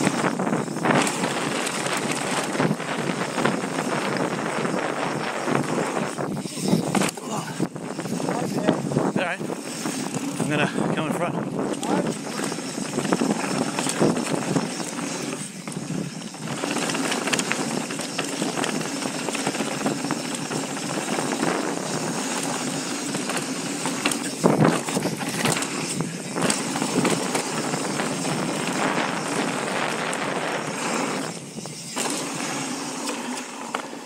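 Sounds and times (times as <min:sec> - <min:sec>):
wind rush over microphone: 0:00.0 - 0:32.8
bike rattling: 0:00.0 - 0:34.0
bike tyres on dirt: 0:00.0 - 0:34.0.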